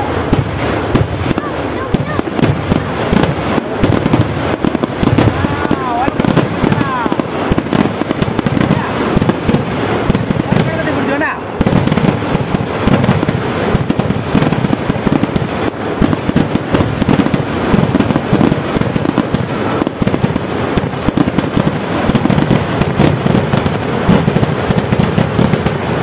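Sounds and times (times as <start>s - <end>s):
firecracker barrage: 0.0s - 26.0s.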